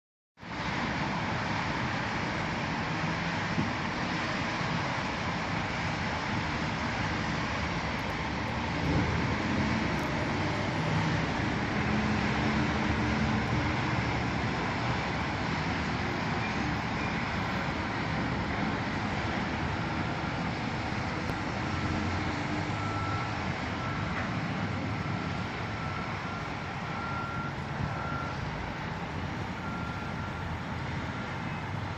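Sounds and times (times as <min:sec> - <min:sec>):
vehicle traffic: 0:00.4 - 0:31.9.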